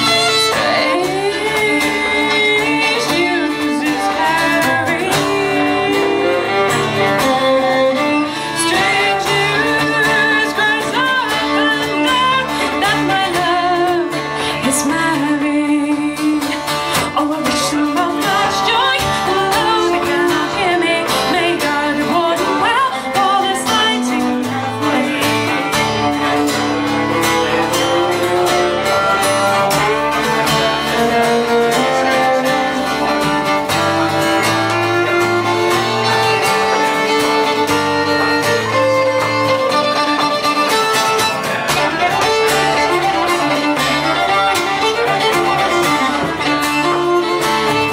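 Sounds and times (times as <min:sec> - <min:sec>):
fiddle playing folk tune: 0:00.0 - 0:47.9
guitar accompaniment: 0:00.0 - 0:47.9.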